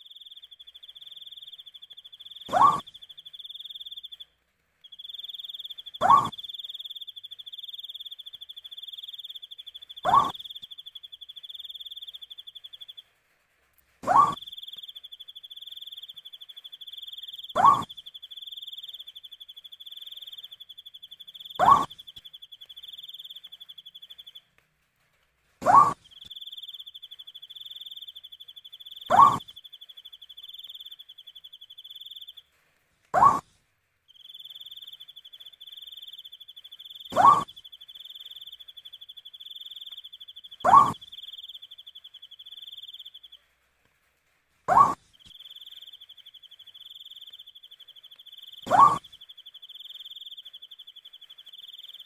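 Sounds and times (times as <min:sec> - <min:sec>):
owl calling: 0:00.0 - 0:04.2, 0:05.0 - 0:13.0, 0:14.0 - 0:24.4, 0:25.6 - 0:32.4, 0:33.2 - 0:33.4, 0:34.1 - 0:43.4, 0:44.7 - 0:52.0
cricket trill: 0:00.0 - 0:04.3, 0:04.9 - 0:13.0, 0:14.1 - 0:24.4, 0:25.6 - 0:32.4, 0:34.1 - 0:43.4, 0:44.7 - 0:52.0.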